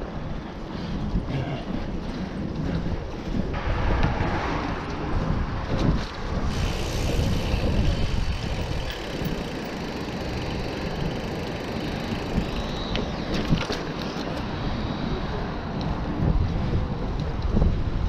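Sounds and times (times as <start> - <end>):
tyres rolling on pavement: 0.0 - 18.0
wind buffeting microphone: 0.0 - 18.0.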